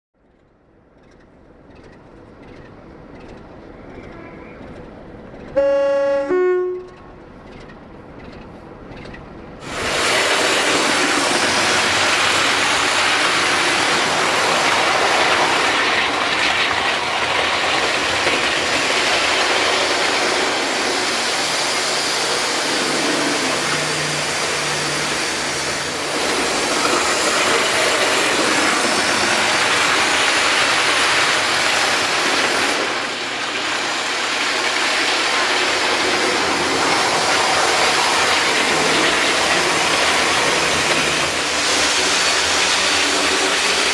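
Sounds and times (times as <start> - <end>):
diesel train running: 0.2 - 43.9.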